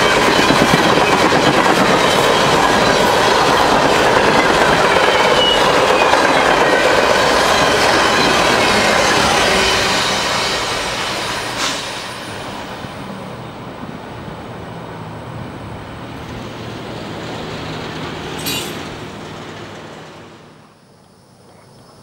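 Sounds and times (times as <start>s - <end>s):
freight train wheels on rail: 0.0s - 20.8s.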